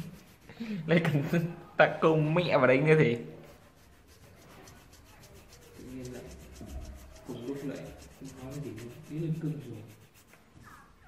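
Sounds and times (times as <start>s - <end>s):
colored pencil shading on paper: 0.0s - 1.5s, 2.9s - 11.0s.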